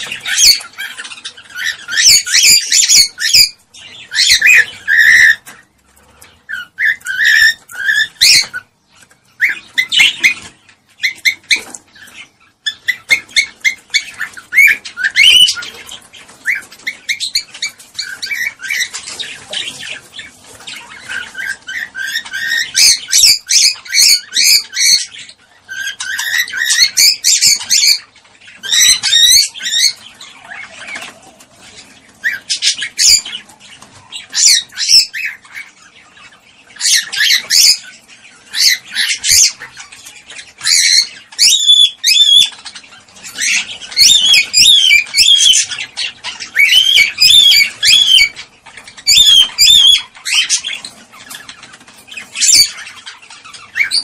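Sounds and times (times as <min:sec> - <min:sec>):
cockatiel chirping and whistling: 0:00.0 - 0:05.6, 0:06.5 - 0:08.7, 0:09.4 - 0:31.1, 0:32.2 - 0:35.8, 0:36.8 - 0:48.4, 0:49.0 - 0:54.0.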